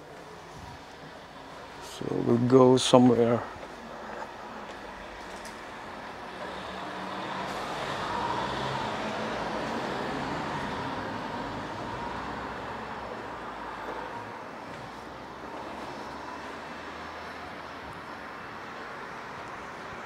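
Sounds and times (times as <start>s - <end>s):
background traffic: 0.0s - 20.0s
vehicle passing: 3.3s - 20.0s.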